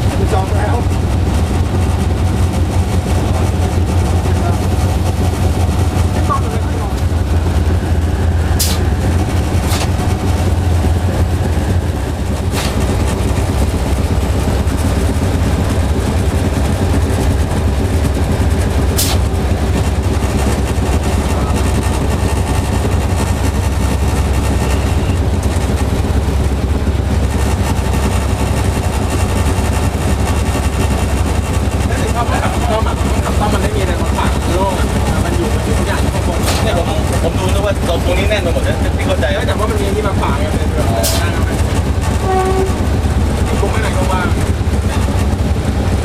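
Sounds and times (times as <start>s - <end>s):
diesel locomotive idling: 0.0s - 46.0s.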